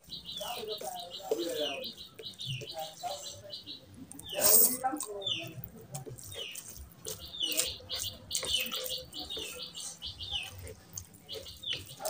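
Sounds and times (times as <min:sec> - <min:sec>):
hand squishing food: 0:00.0 - 0:12.0
wet chewing and lip smacking: 0:00.1 - 0:03.2, 0:03.8 - 0:12.0.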